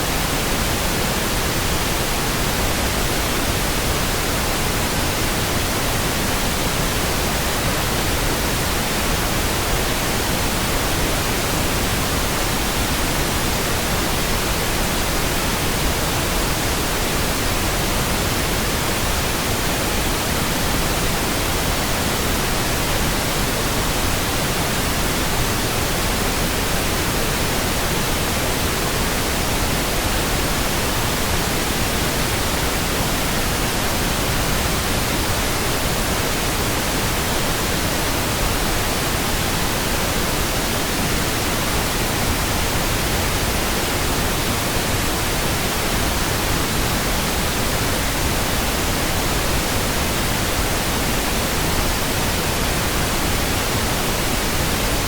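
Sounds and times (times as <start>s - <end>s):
steady pink noise hiss: 0.0s - 55.0s.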